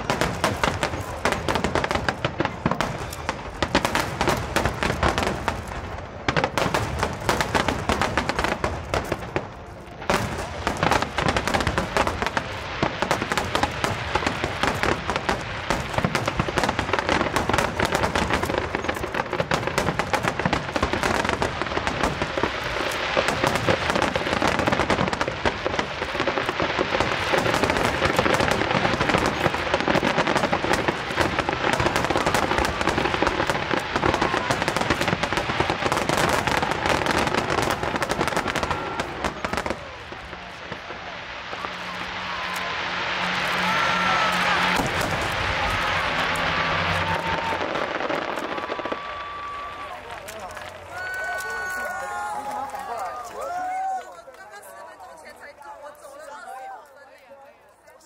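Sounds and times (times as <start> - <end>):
fireworks bangs and crackling: 0.0 - 56.8.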